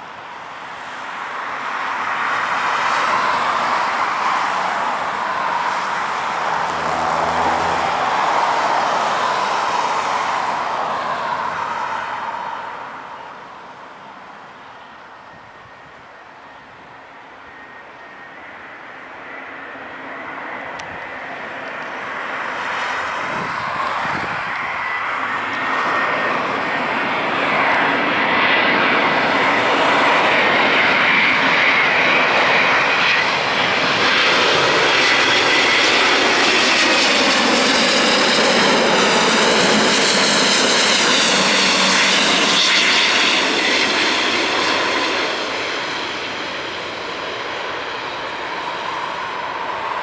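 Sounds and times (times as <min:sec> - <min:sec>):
jet airliner passing overhead: 0:00.0 - 0:50.0.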